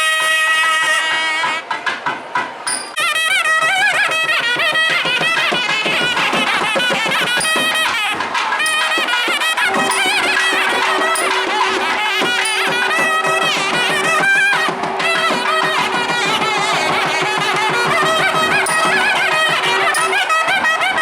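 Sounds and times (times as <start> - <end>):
reedy wind instrument melody: 0.0 - 1.9, 2.7 - 21.0
drum strokes: 1.5 - 21.0.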